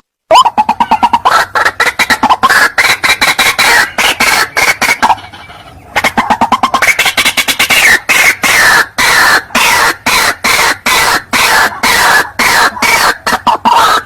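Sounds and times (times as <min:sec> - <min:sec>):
bird harsh repeated calls: 0:00.3 - 0:14.0.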